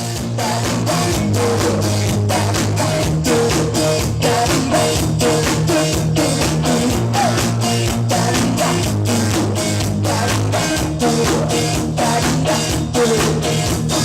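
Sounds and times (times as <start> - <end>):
drum kit beat: 0.0 - 14.0
held bass line: 0.0 - 14.0.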